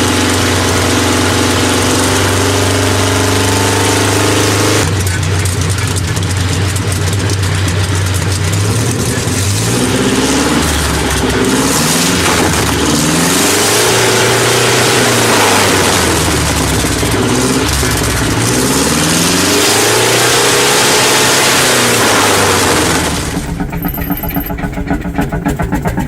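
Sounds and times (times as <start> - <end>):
engine idling and revving: 0.0 - 26.0.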